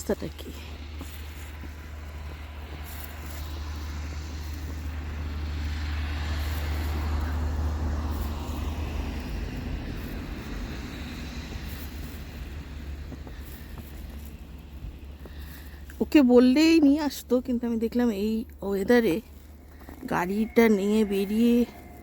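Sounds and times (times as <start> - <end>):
vehicle passing by: 0.0 - 22.0.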